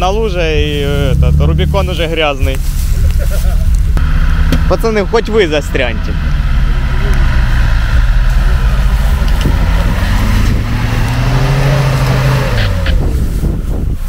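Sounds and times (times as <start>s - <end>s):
engine revving: 0.0s - 14.0s
tyres churning mud: 0.0s - 14.0s.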